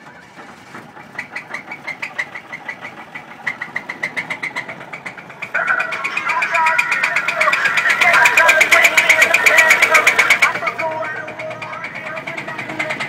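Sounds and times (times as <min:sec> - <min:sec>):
car engine knocking: 0:00.0 - 0:13.0.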